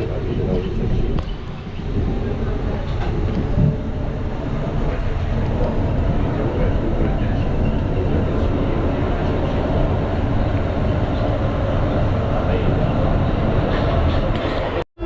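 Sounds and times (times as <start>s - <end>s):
metro train rumbling: 0.0s - 14.8s.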